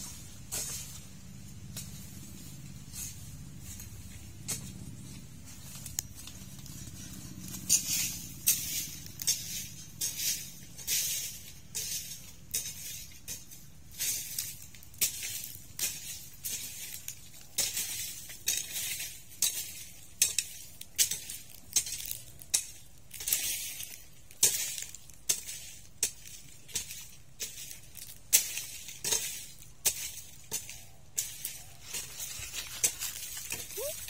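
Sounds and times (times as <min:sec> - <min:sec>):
leaves and twigs crackling: 0:00.0 - 0:34.0.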